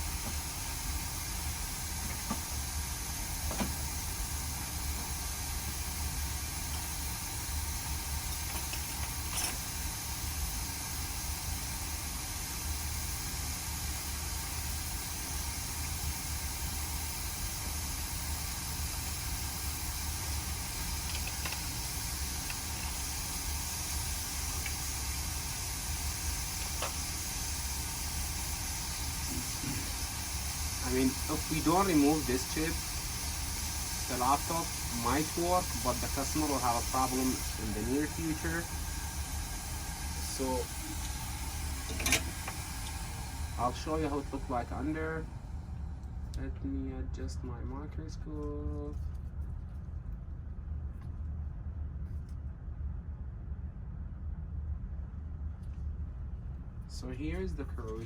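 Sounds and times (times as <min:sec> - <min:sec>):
hot air blower hissing: 0:00.0 - 0:47.5
low hum: 0:00.0 - 0:58.0.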